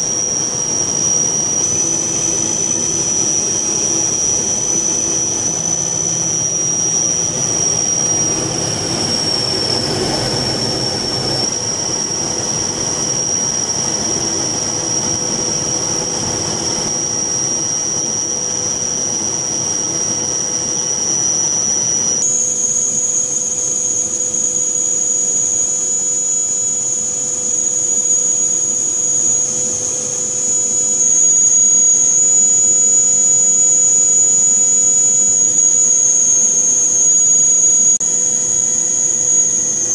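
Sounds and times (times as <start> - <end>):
aircraft engine whine: 0.0 - 39.9.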